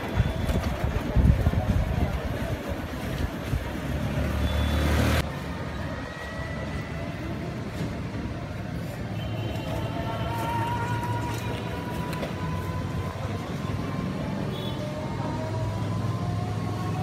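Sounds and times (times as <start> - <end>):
street ambience: 0.0 - 17.0
street traffic road rumble: 0.0 - 17.0.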